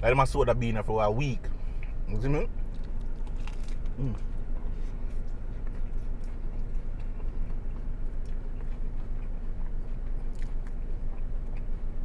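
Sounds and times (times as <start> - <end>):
steady low hum: 0.0 - 12.0
person chewing crunchy taco: 1.4 - 12.0.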